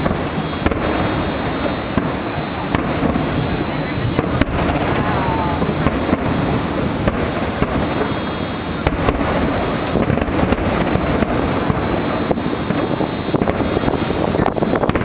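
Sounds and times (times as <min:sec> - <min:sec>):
fireworks booming: 0:00.0 - 0:15.0
sharp firework cracks: 0:00.0 - 0:15.0.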